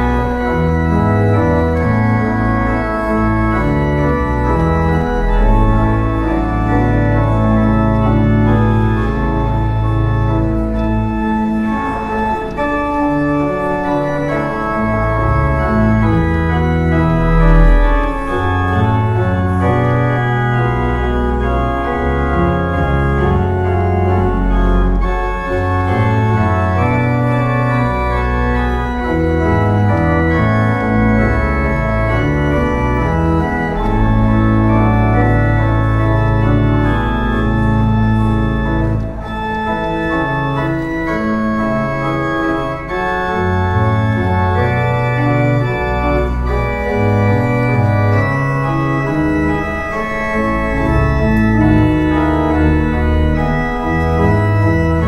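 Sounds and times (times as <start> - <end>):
organ playing sustained chords: 0.0 - 55.0.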